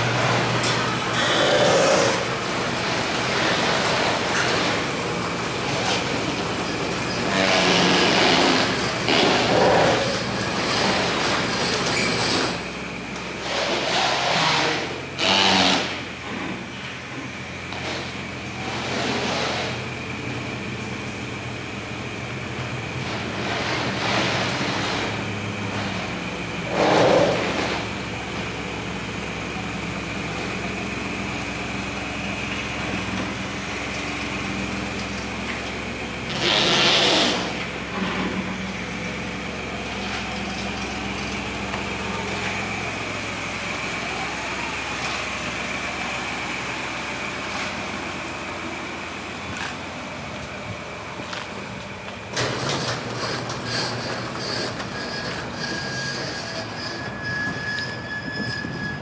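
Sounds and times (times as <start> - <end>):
pickup truck idling: 0.0 - 59.0.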